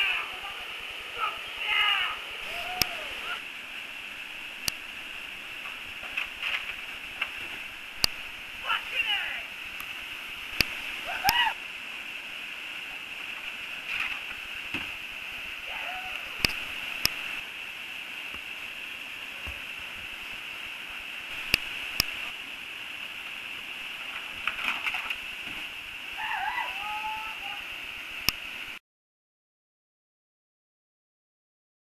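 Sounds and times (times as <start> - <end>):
waterfall rushing: 0.0 - 28.8.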